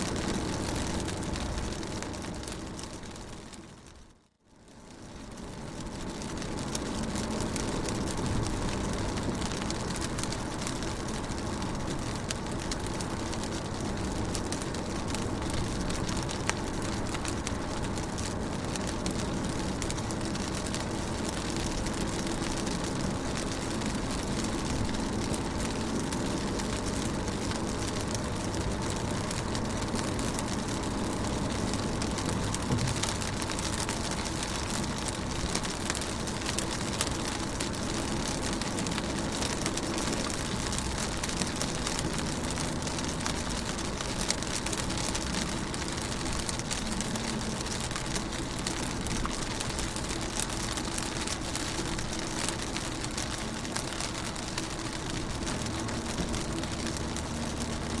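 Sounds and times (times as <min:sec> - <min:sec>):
rain pattering on car window: 0:00.0 - 0:58.0.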